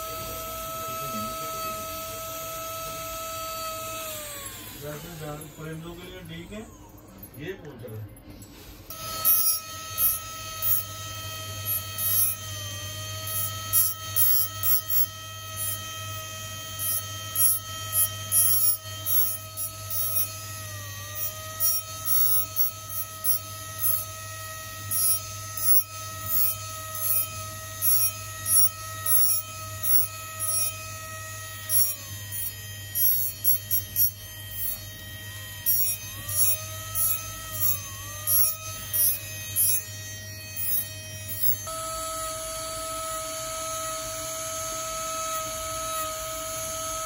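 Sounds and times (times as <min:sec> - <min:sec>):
bit cutting metal: 0:00.0 - 0:08.1, 0:08.9 - 0:47.0
rotary handpiece motor whine: 0:00.0 - 0:47.0.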